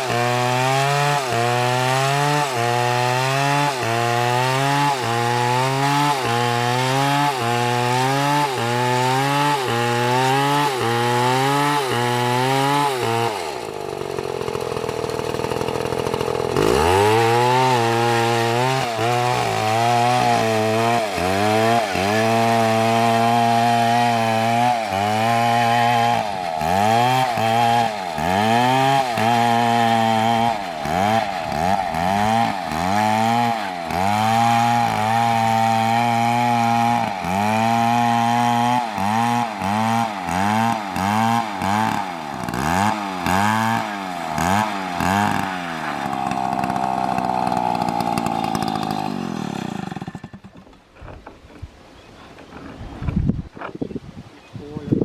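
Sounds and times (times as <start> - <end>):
chainsaw cutting tree: 0.0 - 51.3.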